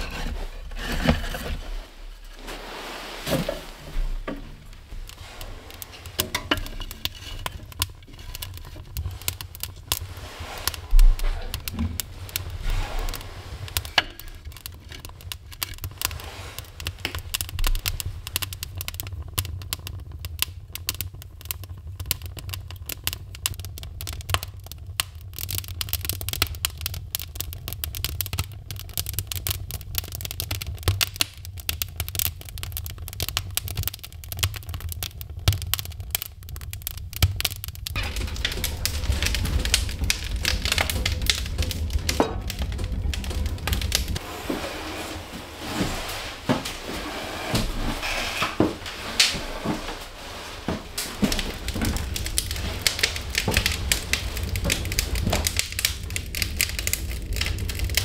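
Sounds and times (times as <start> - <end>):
fire crackling and popping: 0.0 - 58.0
wood stove low rumble: 0.0 - 58.0.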